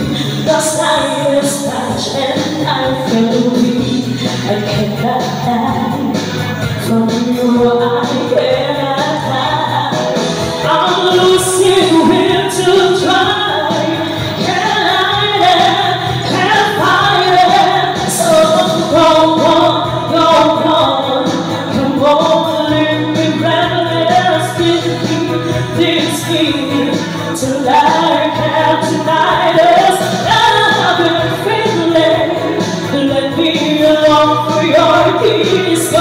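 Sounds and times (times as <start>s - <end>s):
musical accompaniment: 0.0s - 36.0s
woman singing into microphone: 0.0s - 36.0s.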